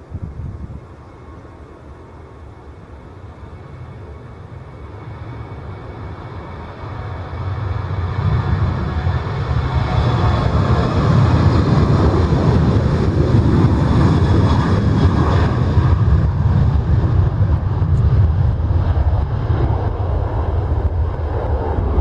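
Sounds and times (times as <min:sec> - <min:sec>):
faint engine whine: 0:00.0 - 0:22.0
jet engines rumbling: 0:00.0 - 0:22.0.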